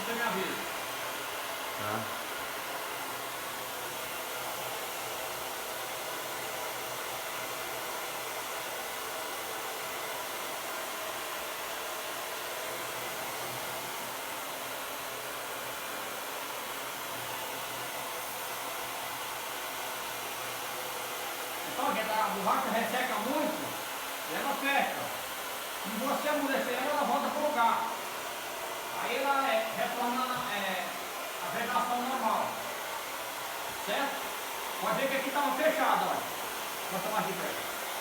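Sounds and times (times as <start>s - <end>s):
hair dryer running: 0.0s - 38.0s.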